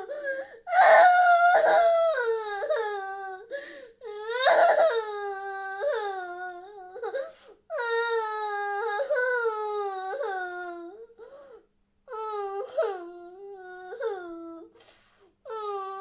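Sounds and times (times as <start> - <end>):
girl crying: 0.0 - 14.8
girl sobbing: 0.0 - 16.0.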